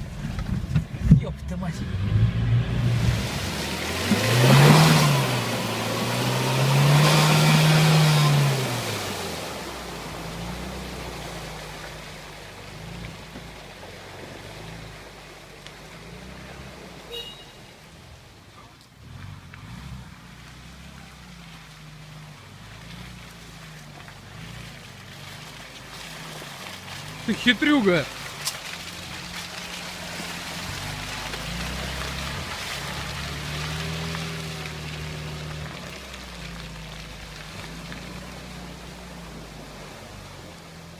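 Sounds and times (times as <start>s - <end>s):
engine running at low revs: 0.0s - 17.2s, 18.0s - 40.9s.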